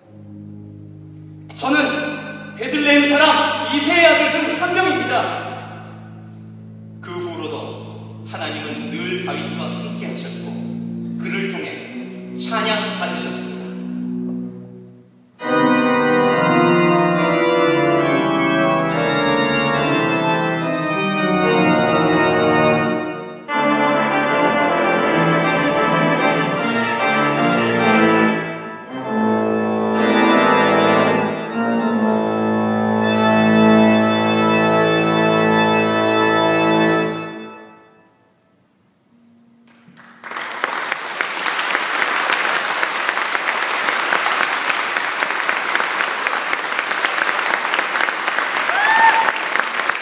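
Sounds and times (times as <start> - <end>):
pipe organ playing loud chords: 0.0 - 48.6.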